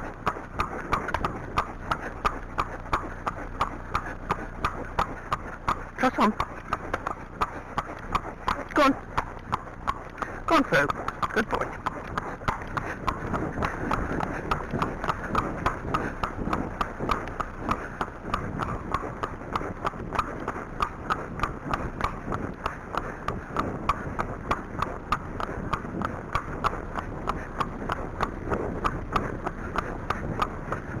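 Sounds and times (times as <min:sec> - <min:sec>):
horse hooves on tarmac: 0:00.0 - 0:31.0.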